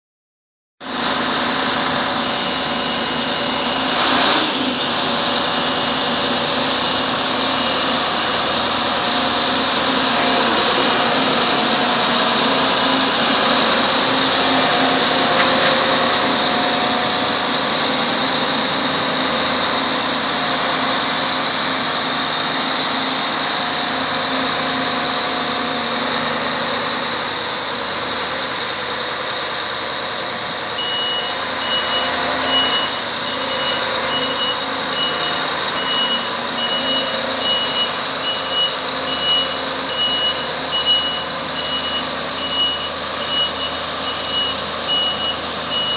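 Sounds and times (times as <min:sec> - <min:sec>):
diesel engine running: 0:00.8 - 0:45.9
reversing alarm beeping: 0:01.4 - 0:26.8, 0:30.7 - 0:45.9.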